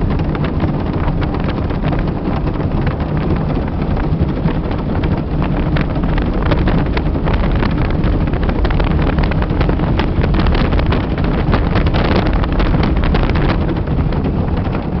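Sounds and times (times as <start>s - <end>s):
motorboat engine drone: 0.0s - 15.0s
wind buffeting microphone: 0.0s - 15.0s.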